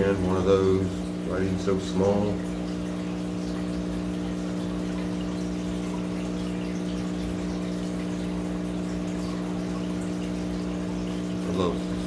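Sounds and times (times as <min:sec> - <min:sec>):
pump humming: 0:00.0 - 0:12.0
water trickling and splashing: 0:00.0 - 0:12.0.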